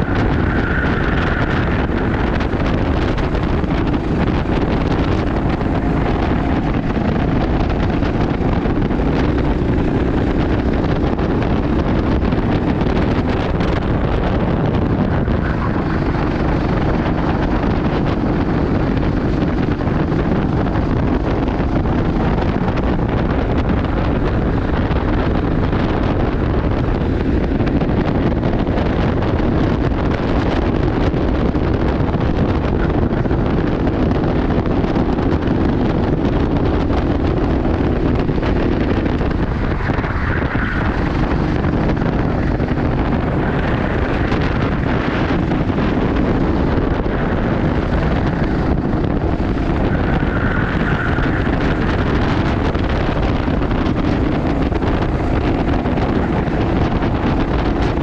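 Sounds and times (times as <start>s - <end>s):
kart engine at speed: 0.0s - 58.0s
wind noise on microphone: 0.0s - 58.0s.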